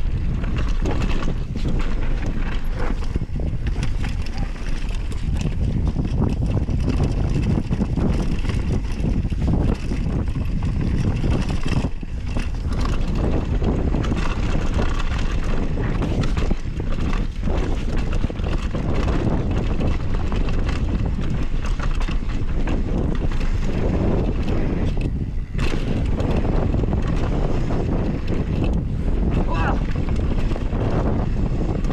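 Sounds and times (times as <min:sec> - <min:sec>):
bike rattling over bumps: 0:00.0 - 0:31.9
tyres rolling over dirt and stones: 0:00.0 - 0:31.9
wind noise on microphone: 0:00.0 - 0:31.9.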